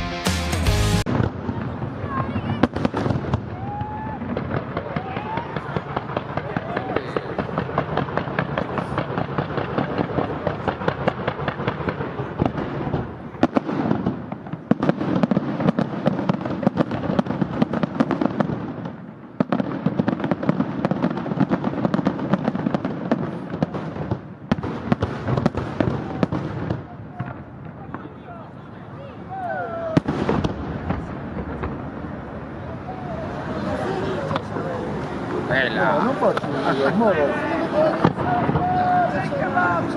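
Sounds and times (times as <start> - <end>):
fireworks bangs: 0.0 - 39.9
fireworks crackling and popping: 0.0 - 39.9.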